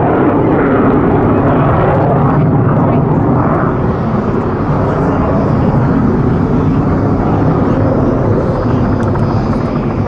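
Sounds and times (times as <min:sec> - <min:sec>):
jet engine rumble overhead: 0:00.0 - 0:10.0.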